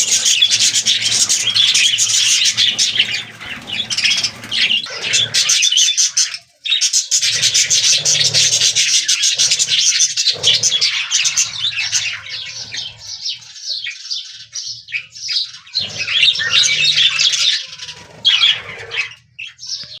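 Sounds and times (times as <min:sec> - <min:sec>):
budgies chirping: 0:00.0 - 0:20.0.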